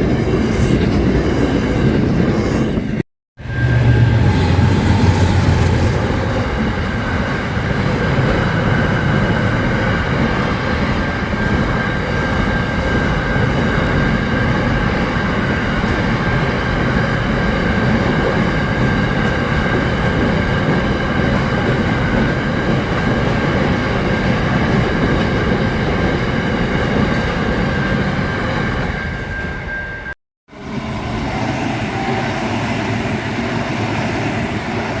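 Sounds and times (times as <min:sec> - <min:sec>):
train rumbling on rails: 0:00.0 - 0:35.0.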